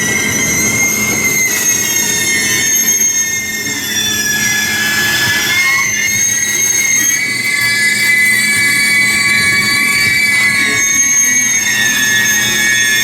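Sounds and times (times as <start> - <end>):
train rumble: 0.0 - 13.0
train wheels squealing on rails: 0.0 - 13.0.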